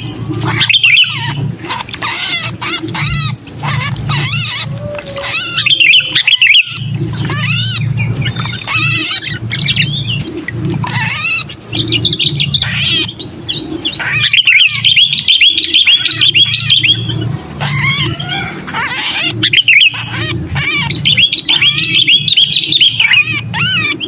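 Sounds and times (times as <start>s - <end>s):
bulbuls giving distress calls: 0.0s - 24.0s
steady low hum: 0.0s - 24.0s.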